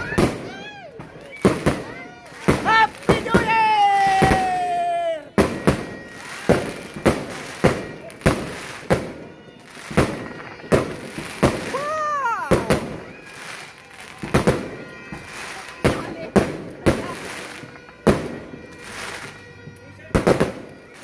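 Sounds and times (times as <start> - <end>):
fireworks bangs: 0.0 - 21.0
fireworks hissing and crackling: 0.0 - 21.0.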